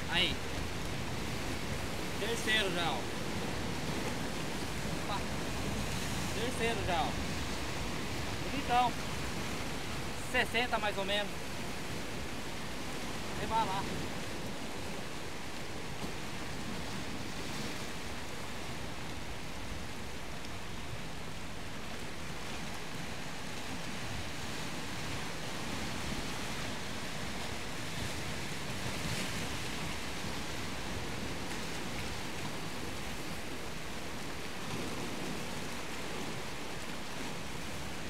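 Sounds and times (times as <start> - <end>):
surf washing: 0.0 - 38.0.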